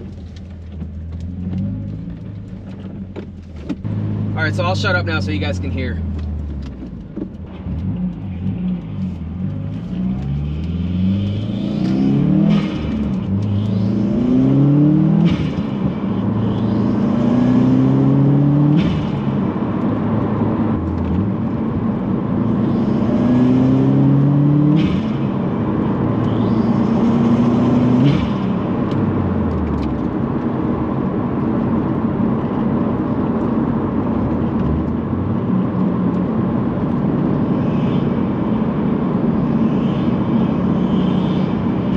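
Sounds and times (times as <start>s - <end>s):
car engine accelerating: 0.0s - 41.9s.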